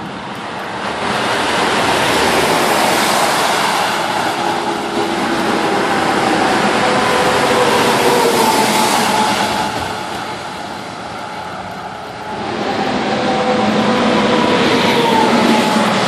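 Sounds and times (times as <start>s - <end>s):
traffic passing on wet road: 0.0s - 16.0s.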